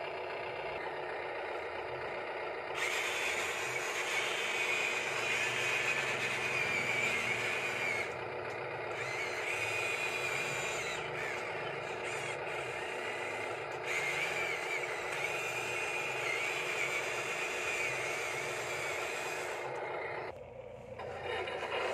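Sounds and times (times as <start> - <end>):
toy excavator motors whining: 0.0 - 21.9.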